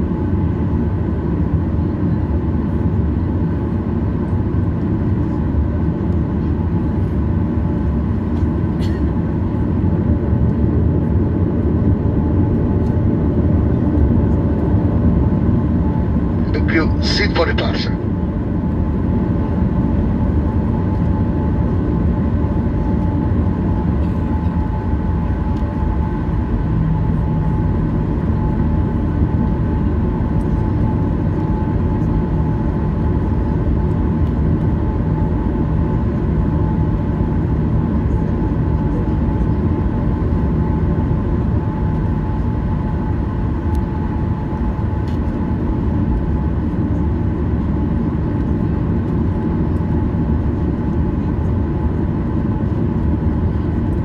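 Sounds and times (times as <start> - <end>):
jet engine rumble with whine: 0.0 - 54.0.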